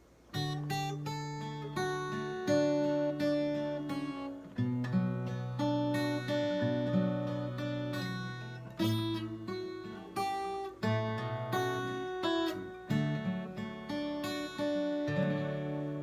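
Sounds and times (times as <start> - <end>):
acoustic guitar strumming chords: 0.3 - 16.0.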